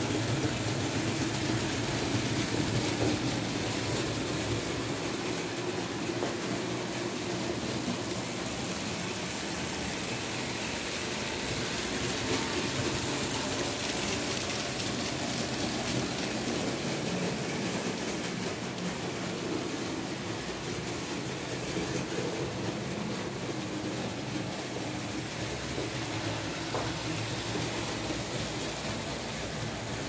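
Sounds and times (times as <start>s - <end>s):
metal wheels rolling on rails: 0.0s - 30.0s.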